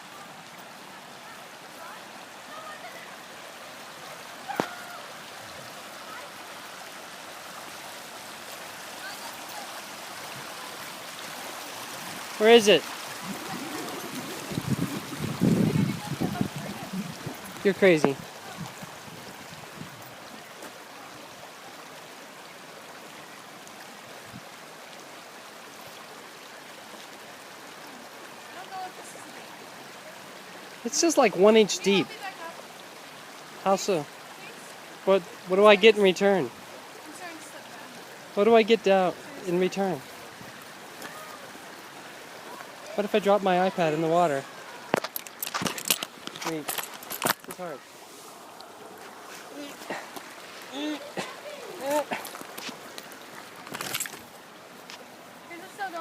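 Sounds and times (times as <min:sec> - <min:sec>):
river water running: 0:00.0 - 0:56.0.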